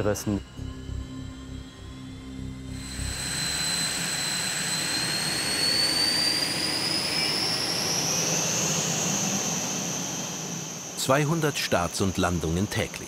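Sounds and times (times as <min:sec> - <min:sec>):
jet engines roaring with rising whine: 0:00.0 - 0:13.0.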